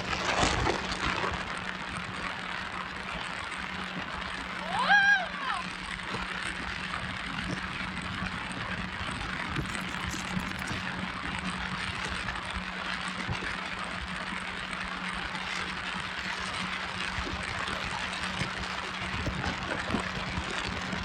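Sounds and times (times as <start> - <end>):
motorboat engine hum: 0.0 - 21.0.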